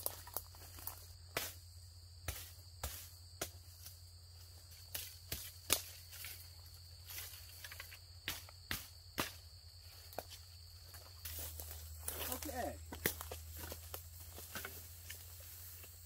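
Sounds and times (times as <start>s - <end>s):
footsteps through undergrowth: 0.0s - 1.6s, 2.3s - 16.0s
high insect drone: 0.0s - 16.0s.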